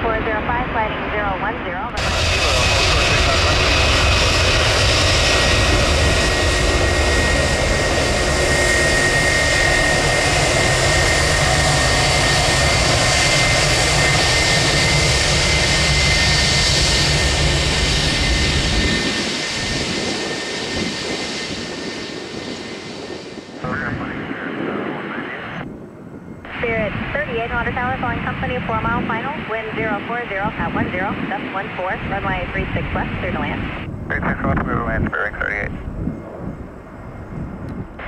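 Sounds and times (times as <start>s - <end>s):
high jet engine whine: 0.0s - 38.0s
jet engines rumbling: 0.0s - 38.0s.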